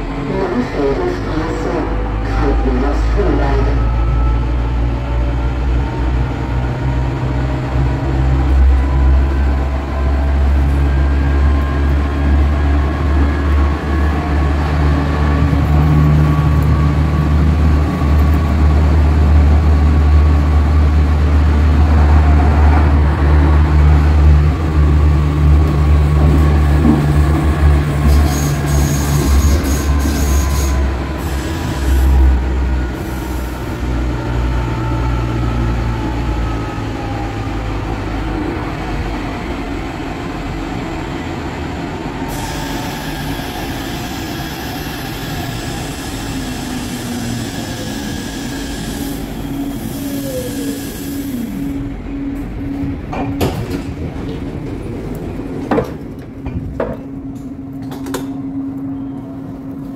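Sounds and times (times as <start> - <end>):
tram wheels rumbling on rails: 0.0 - 59.9.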